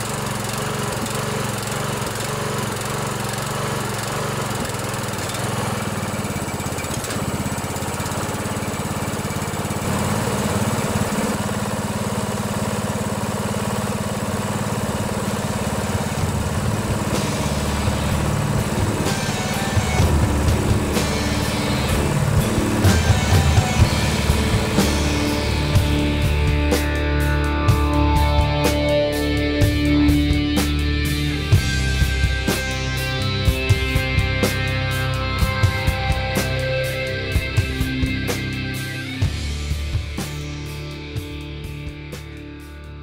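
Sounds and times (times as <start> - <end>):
lawnmower engine running: 0.0 - 43.0.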